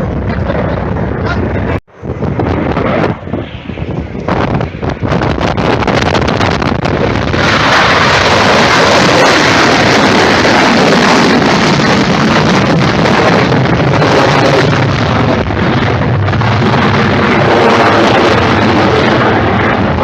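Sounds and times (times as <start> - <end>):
jet aircraft flypast: 0.0 - 20.0
wind buffeting microphone: 0.0 - 20.0.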